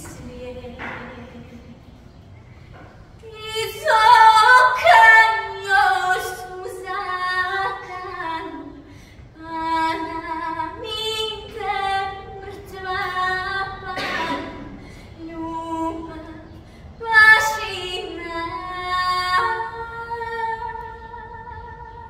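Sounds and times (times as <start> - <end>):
woman singing unaccompanied: 0.0 - 1.9, 3.2 - 22.0.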